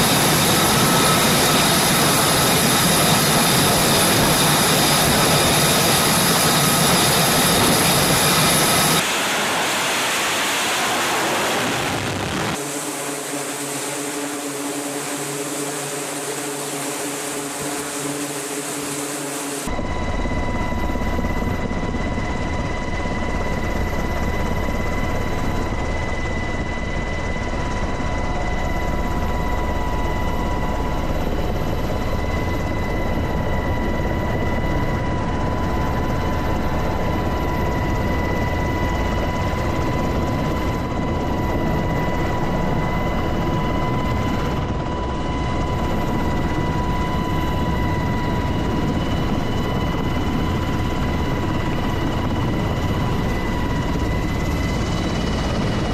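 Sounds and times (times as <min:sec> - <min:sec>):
helicopter rotor and engine din: 0:00.0 - 0:55.9.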